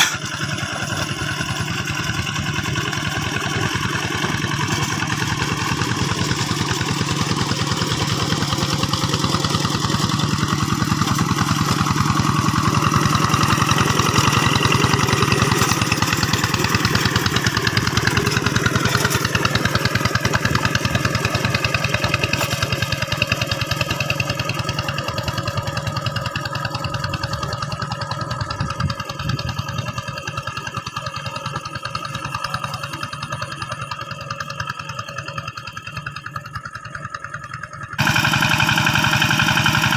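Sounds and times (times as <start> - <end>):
hand tractor diesel engine: 0.0 - 39.9.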